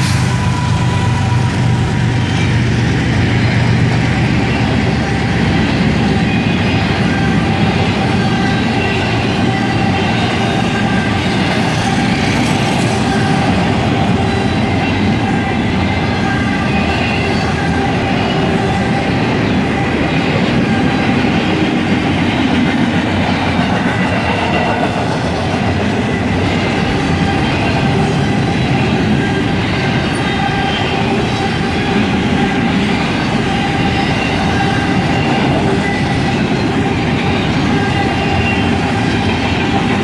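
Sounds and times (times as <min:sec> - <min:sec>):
freight train rumbling past: 0:00.0 - 0:40.0.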